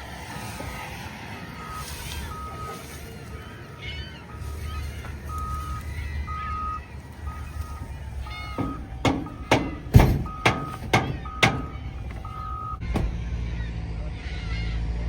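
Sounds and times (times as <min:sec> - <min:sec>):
low engine rumble: 0:00.0 - 0:15.0
reversing alarm beeping: 0:00.3 - 0:13.2.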